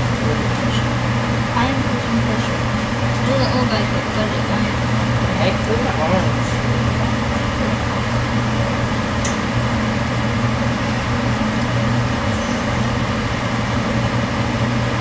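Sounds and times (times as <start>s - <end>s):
electric motor hum: 0.0s - 15.0s.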